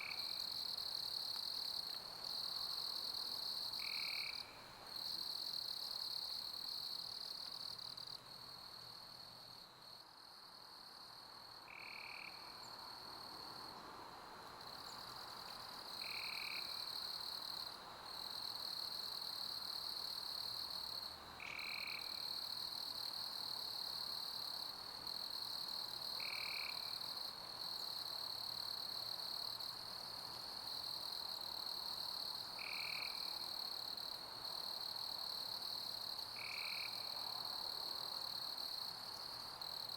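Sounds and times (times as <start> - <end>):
soft steady hiss: 0.0 - 39.9.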